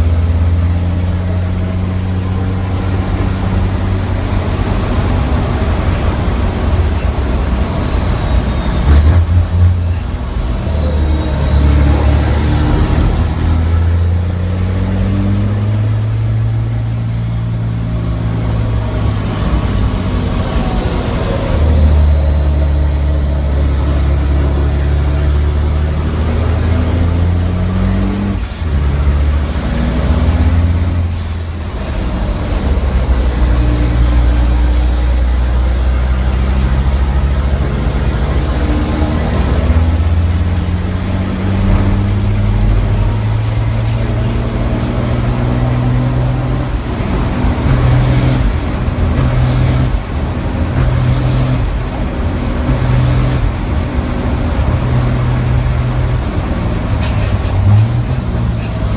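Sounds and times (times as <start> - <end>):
high turbo whistle: 0.0 - 58.9
truck diesel engine under load: 0.0 - 58.9.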